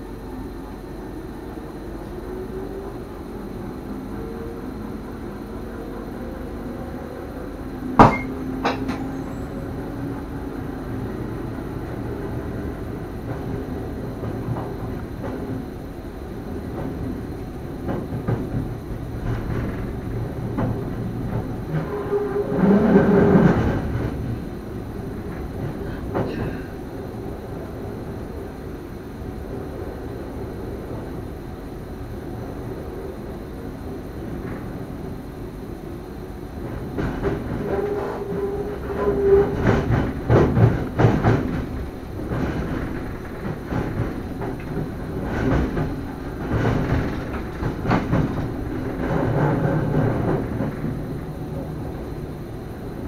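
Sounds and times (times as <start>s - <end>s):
train running on track: 0.0s - 53.0s.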